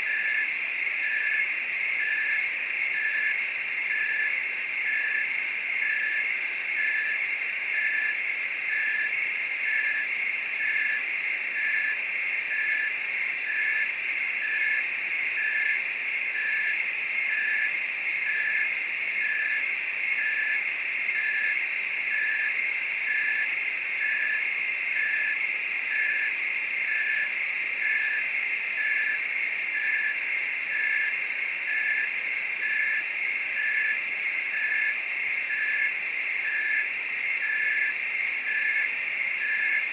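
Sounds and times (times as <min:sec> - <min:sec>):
crickets and frogs trilling: 0:00.0 - 0:39.9.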